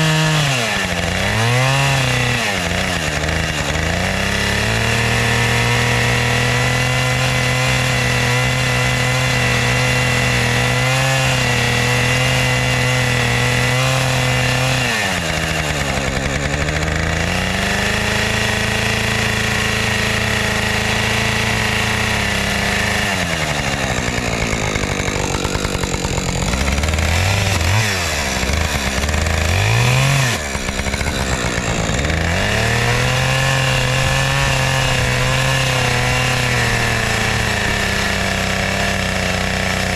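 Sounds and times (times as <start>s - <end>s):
chainsaw cutting at high revs: 0.0s - 39.9s.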